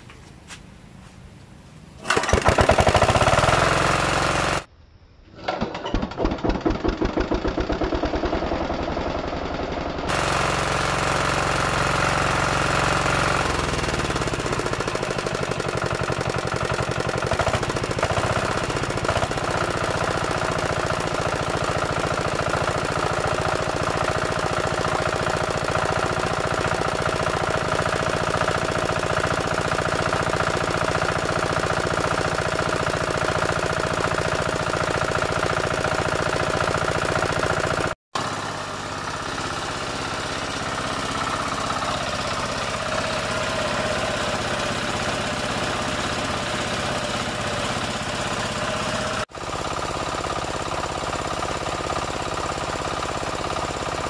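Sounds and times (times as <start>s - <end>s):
diesel engine running: 2.0s - 4.7s, 6.3s - 54.0s.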